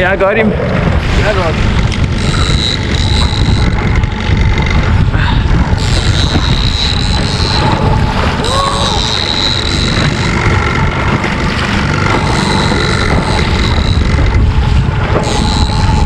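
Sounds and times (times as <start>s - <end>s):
wind buffeting microphone: 0.0s - 16.0s
outboard motor whining: 0.5s - 16.0s.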